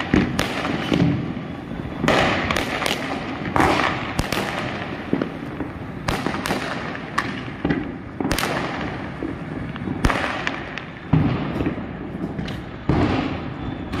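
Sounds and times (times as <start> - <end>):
firecracker pops: 2.0 - 14.0.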